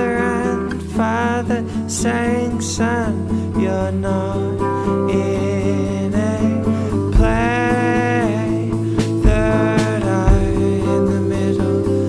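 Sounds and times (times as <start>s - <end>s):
acoustic guitar: 0.0s - 12.0s
person singing: 0.0s - 12.0s.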